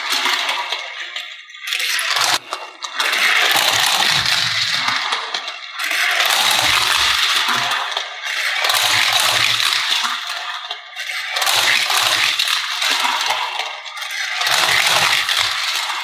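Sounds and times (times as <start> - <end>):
toy cars rattling and clinking: 0.0 - 16.0.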